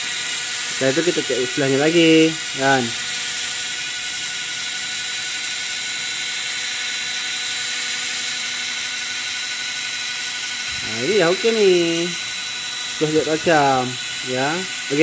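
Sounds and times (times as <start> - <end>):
machine drone with high whine: 0.0 - 15.0.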